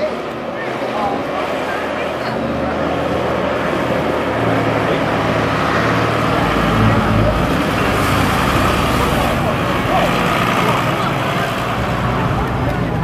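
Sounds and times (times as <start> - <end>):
tractor diesel engine passing: 0.0 - 13.0.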